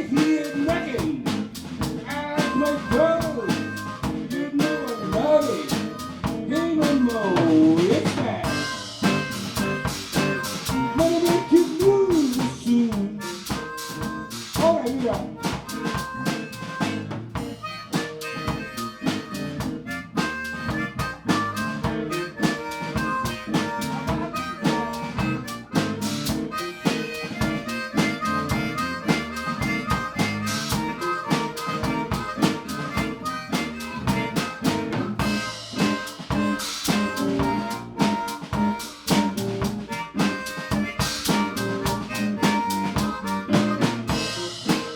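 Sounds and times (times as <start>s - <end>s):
bending lead melody: 0.0s - 44.9s
drum kit beat: 0.0s - 44.9s
live blues jazz band: 0.0s - 44.9s.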